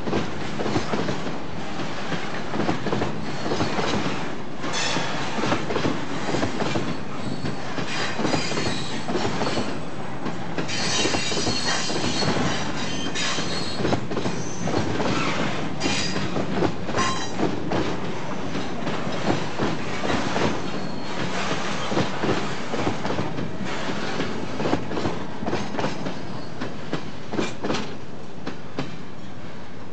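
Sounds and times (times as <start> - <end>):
train wheels clattering over rail joints: 0.0 - 29.0.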